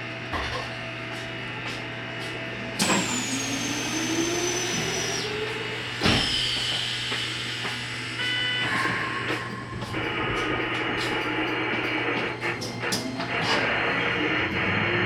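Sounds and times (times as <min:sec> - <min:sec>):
high electrical whine: 0:00.3 - 0:15.0
low motor tone rising: 0:02.9 - 0:15.0.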